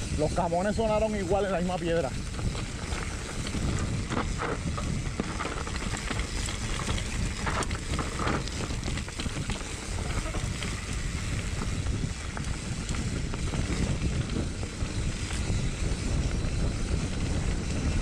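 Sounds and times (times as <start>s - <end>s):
wheels rumbling on rough surface: 0.0s - 18.0s
wind buffeting microphone: 0.0s - 18.0s.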